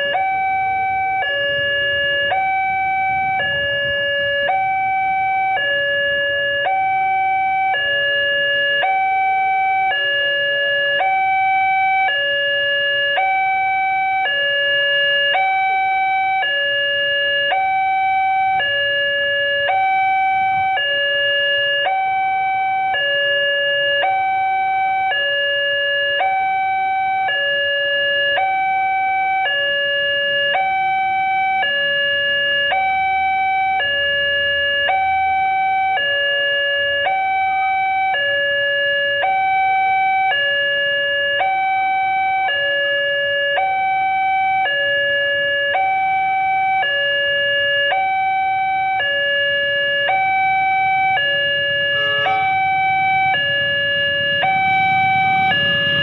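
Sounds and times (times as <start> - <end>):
two-tone level crossing alarm: 0.0 - 56.0.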